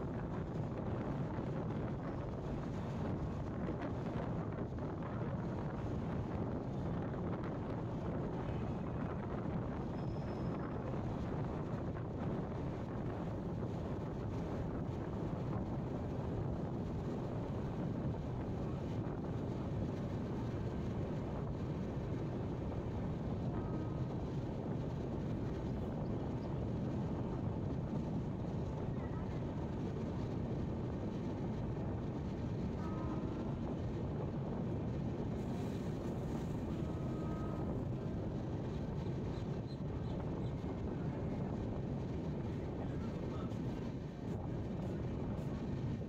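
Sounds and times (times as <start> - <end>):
moving vehicle rumble: 0.0 - 46.0
wind on microphone: 0.0 - 46.0.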